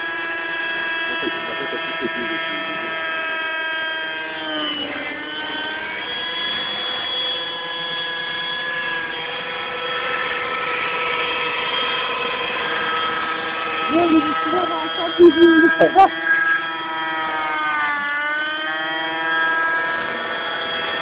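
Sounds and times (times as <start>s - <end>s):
model helicopter motor whine: 0.0s - 21.0s.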